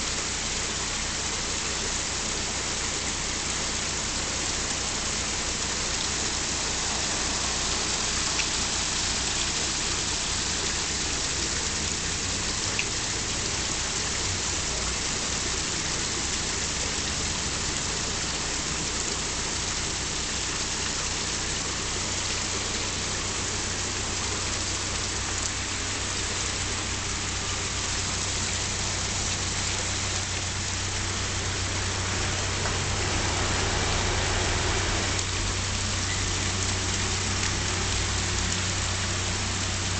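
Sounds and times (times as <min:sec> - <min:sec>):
water rushing into lock: 0:00.0 - 0:39.9.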